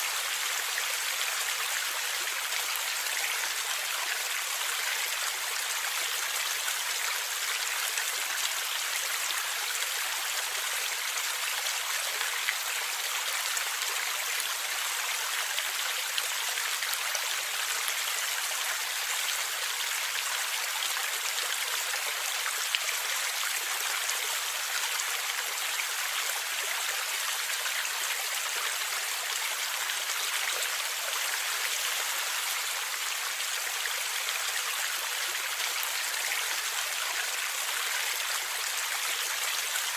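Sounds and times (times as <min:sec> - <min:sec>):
stream gurgling over rocks: 0:00.0 - 0:39.9.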